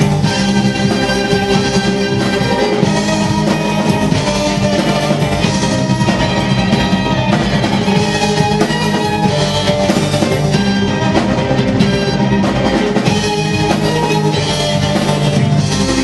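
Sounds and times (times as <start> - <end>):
drum kit beat: 0.0 - 16.0
rock music: 0.0 - 16.0.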